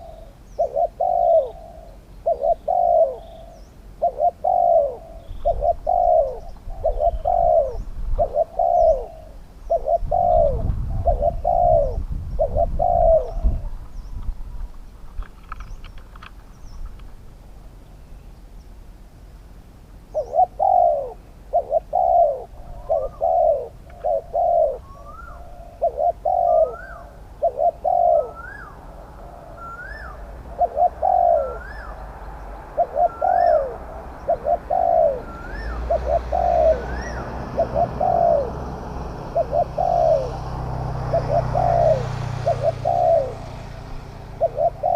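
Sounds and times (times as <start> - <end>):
doves cooing: 0.0 - 14.1, 20.1 - 44.9
rising and falling bird call: 0.0 - 14.2, 20.1 - 44.9.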